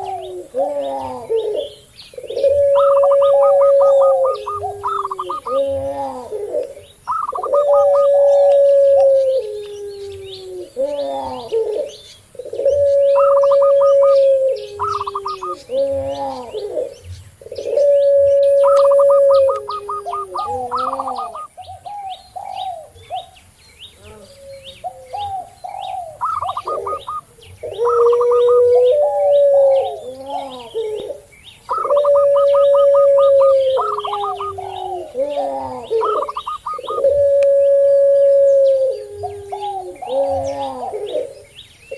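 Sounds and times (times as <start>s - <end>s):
trilled dove coos: 0.0s - 23.4s, 24.0s - 41.5s
small bird chirps: 0.0s - 37.5s
doves cooing: 0.0s - 41.9s.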